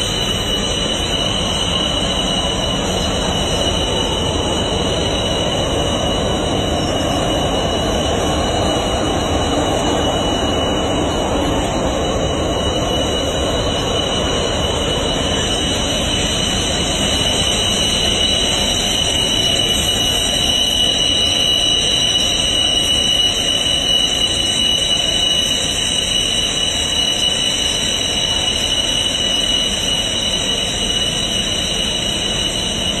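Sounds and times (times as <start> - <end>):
jet engine running: 0.0 - 33.0.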